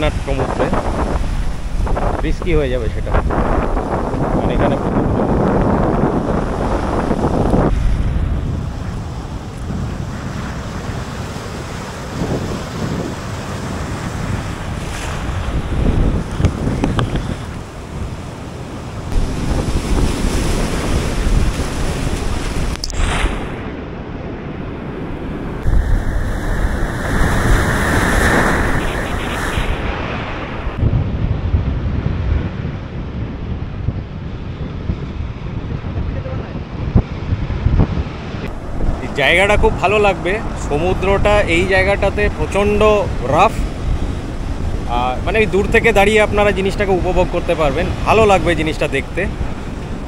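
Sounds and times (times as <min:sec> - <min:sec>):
rough sea surf rushing: 0:00.0 - 0:50.0
wind rumbling on microphone: 0:00.0 - 0:50.0.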